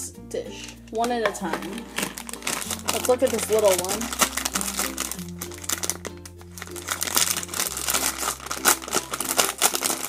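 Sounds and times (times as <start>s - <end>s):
background music with low notes: 0.0s - 10.0s
plastic bag crinkling: 1.5s - 10.0s.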